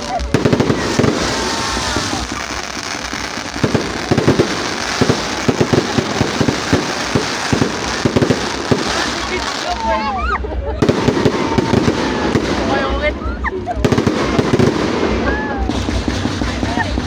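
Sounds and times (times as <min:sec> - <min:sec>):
fireworks crackling hiss: 0:00.0 - 0:17.0
fireworks sharp bangs: 0:00.0 - 0:17.0.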